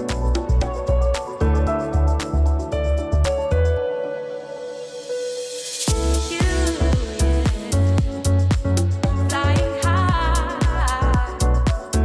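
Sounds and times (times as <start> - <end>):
music with heavy bass beat: 0.0 - 3.8, 5.9 - 12.0.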